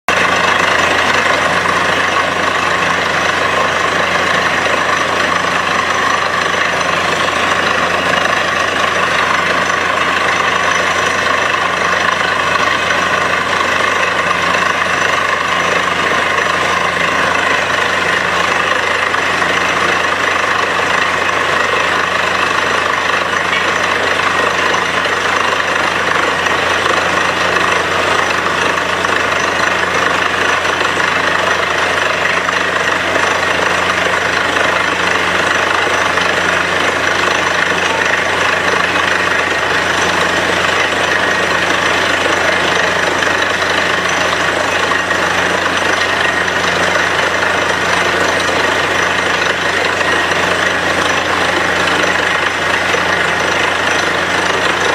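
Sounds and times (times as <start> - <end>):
drilling rig engine drone: 0.0 - 54.9
rush of muddy slurry: 0.1 - 54.9.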